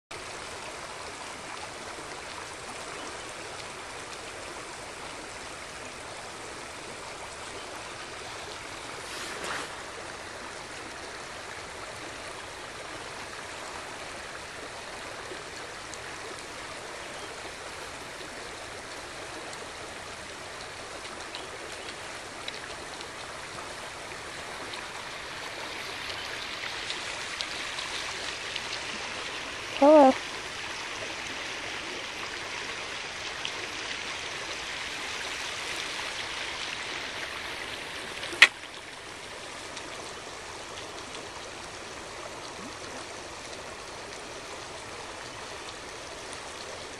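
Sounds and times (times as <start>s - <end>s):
flowing creek water: 0.1s - 46.9s.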